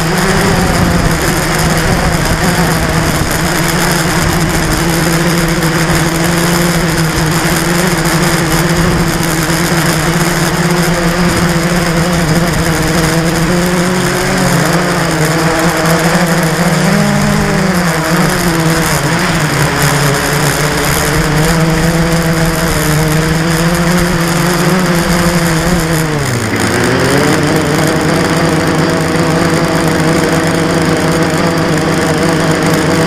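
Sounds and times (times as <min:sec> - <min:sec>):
quadcopter motors buzzing: 0:00.0 - 0:33.0.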